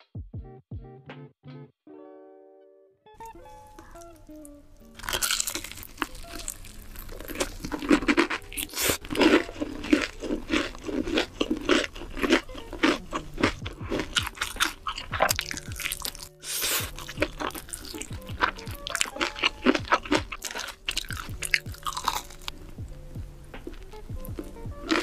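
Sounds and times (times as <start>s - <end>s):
fried chicken crunching: 3.5s - 22.6s, 23.6s - 25.0s.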